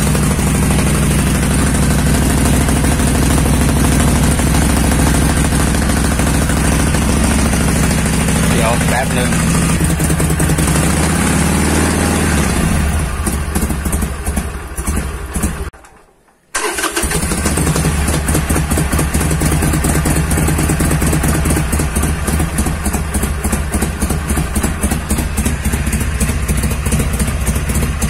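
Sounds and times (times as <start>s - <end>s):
motorcycle engine idling: 0.0s - 15.8s, 16.6s - 28.0s.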